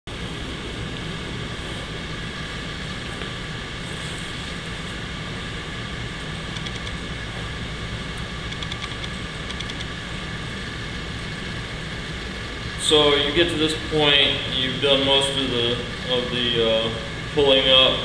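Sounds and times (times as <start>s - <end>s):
steady mechanical hum: 0.1s - 18.0s.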